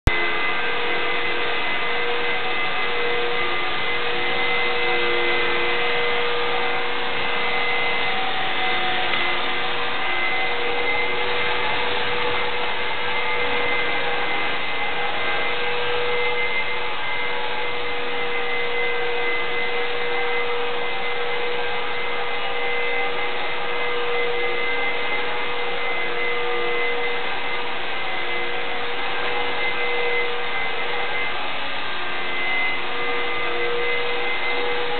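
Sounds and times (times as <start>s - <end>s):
vacuum cleaner motor whine: 0.0s - 34.9s.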